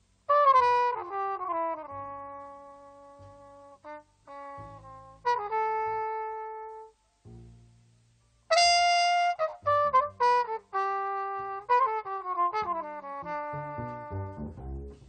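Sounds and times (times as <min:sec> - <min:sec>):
bass notes: 0:00.0 - 0:15.0
horn playing jazz melody: 0:00.3 - 0:07.0, 0:08.5 - 0:15.0.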